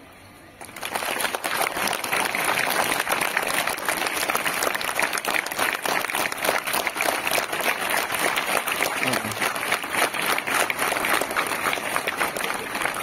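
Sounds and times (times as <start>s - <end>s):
children applauding: 0.6s - 13.0s.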